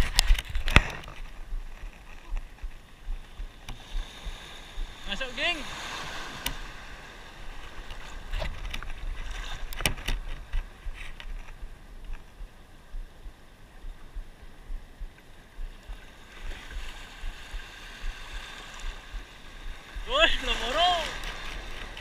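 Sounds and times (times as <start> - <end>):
wind rumble on microphone: 0.0 - 5.2, 5.8 - 22.0
small waves splashing: 0.0 - 22.0.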